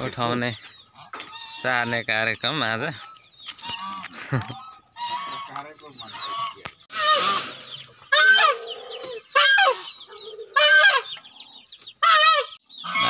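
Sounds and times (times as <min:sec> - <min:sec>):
goose honking: 0:01.0 - 0:11.2, 0:12.0 - 0:13.0.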